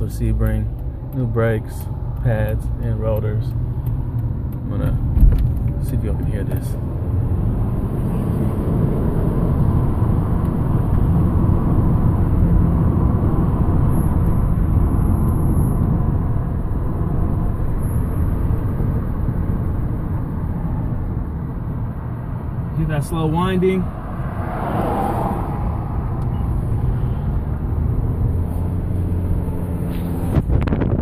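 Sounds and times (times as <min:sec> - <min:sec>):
car cabin road rumble: 0:00.0 - 0:31.0.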